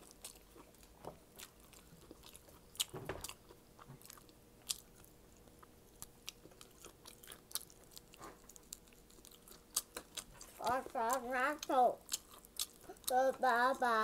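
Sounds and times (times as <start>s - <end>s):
person chewing food: 0.0s - 13.4s.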